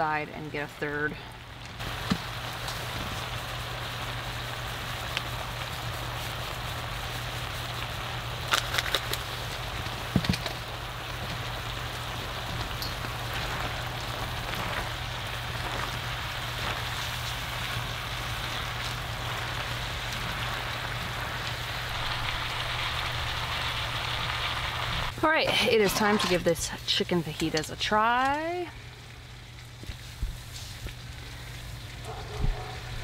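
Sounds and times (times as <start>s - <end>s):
food sizzling in a skillet: 1.8s - 32.1s.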